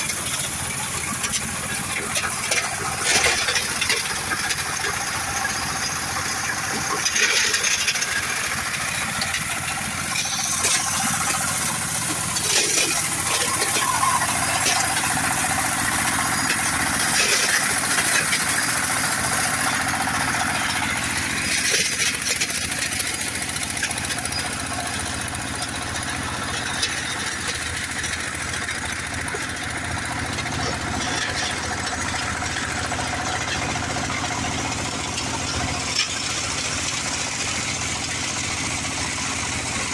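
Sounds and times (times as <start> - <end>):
stone crushing machine grinding: 0.0 - 39.9
stones clattering in crusher: 0.0 - 39.9.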